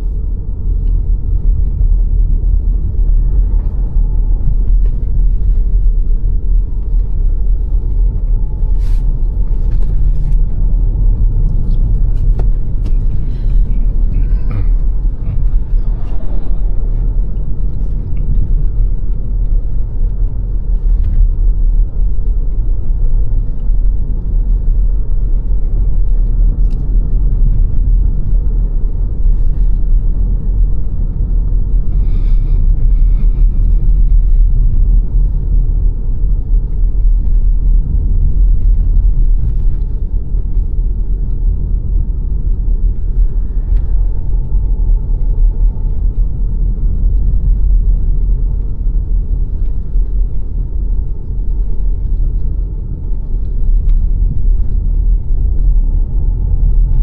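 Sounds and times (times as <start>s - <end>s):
car engine drone: 0.0s - 57.0s
road and tyre rumble: 0.0s - 57.0s.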